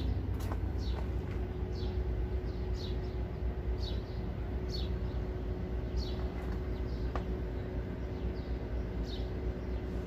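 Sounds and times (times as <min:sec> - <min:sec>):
faint hum: 0:00.0 - 0:10.0
low steady rumble: 0:00.0 - 0:10.0.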